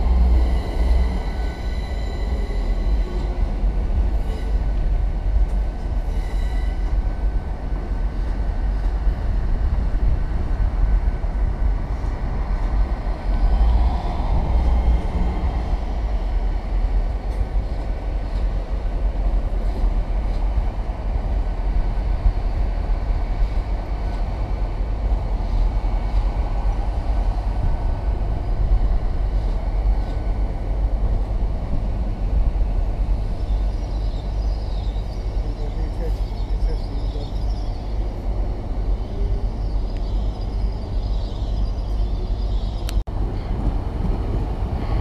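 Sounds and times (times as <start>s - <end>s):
train rumbling through station: 0.0s - 45.0s.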